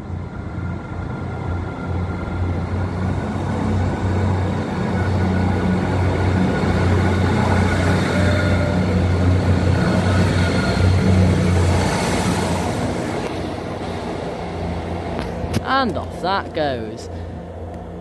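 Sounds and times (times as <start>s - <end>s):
diesel train engine humming: 0.0s - 18.0s.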